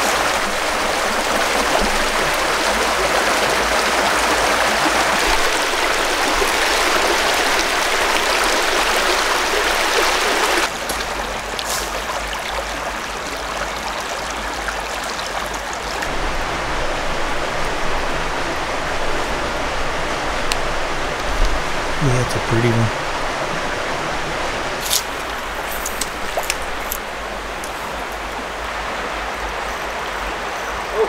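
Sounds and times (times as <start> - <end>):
creek rushing over stones: 0.0 - 31.0.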